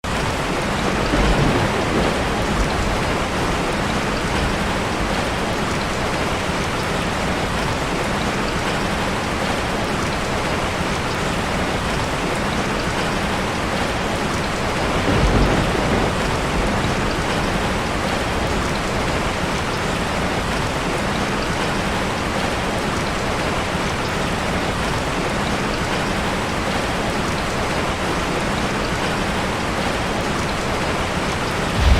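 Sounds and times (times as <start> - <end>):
heavy rain falling: 0.0 - 31.9.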